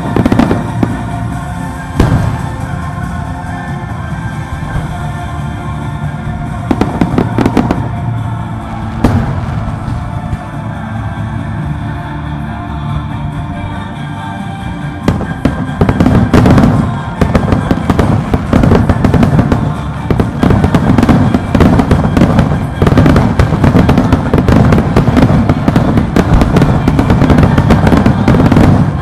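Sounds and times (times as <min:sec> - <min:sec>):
fireworks bangs and crackles: 0:00.0 - 0:11.5, 0:14.8 - 0:29.0
music playing: 0:00.0 - 0:29.0.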